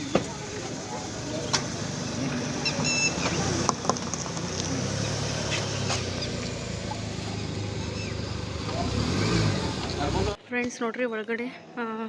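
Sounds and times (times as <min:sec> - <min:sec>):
vehicle engine and road noise: 0:00.0 - 0:10.6.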